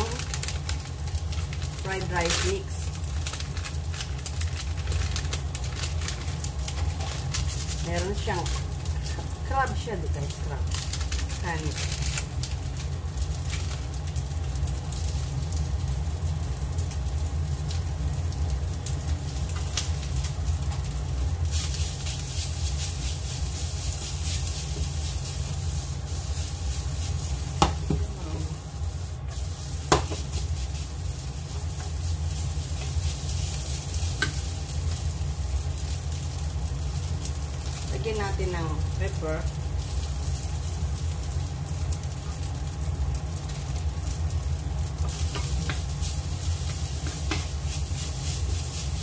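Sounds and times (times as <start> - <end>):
rice sizzling in a frying pan: 0.0 - 49.0
steady low hum: 0.0 - 49.0.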